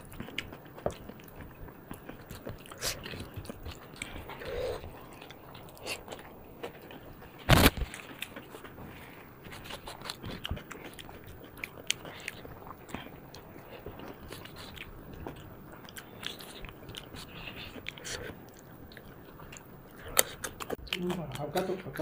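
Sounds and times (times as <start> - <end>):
chewing and lip smacking: 0.0 - 22.0.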